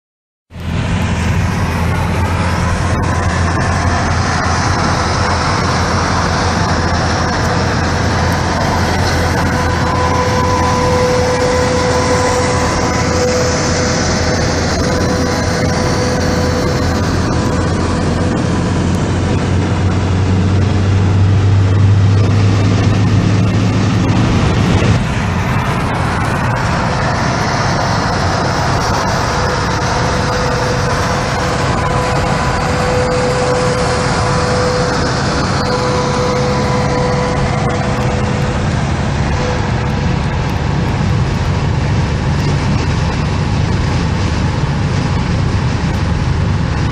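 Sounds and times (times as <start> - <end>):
truck diesel engine droning: 0.5 - 46.9
tyre and wind noise: 0.8 - 46.9.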